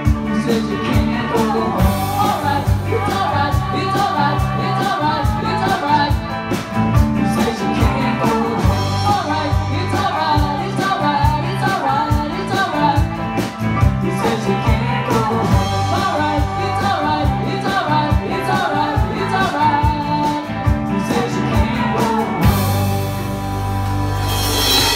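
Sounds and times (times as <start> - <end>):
person singing: 0.0 - 23.5
live rock band playing: 0.0 - 24.9.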